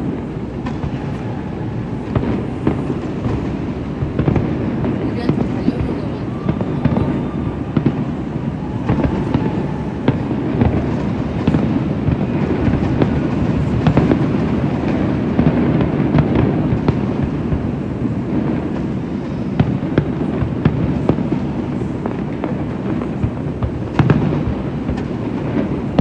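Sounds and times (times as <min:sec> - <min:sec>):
fireworks booming: 0:00.0 - 0:26.0
fireworks sharp cracks: 0:00.0 - 0:26.0.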